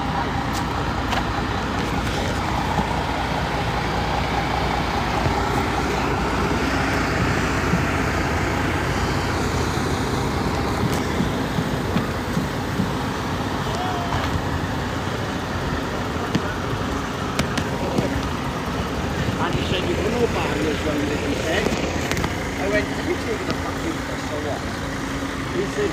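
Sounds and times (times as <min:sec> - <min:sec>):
diesel truck engines rumbling: 0:00.0 - 0:25.9.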